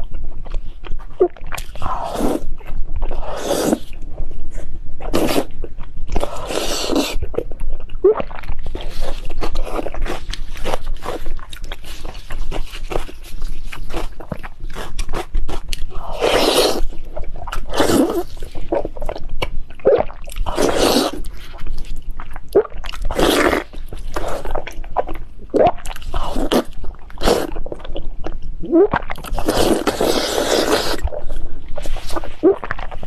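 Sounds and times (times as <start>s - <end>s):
slurping: 1.2s - 4.0s, 6.2s - 7.5s, 8.1s - 28.0s, 28.7s - 33.0s
person eating seafood: 5.0s - 33.0s.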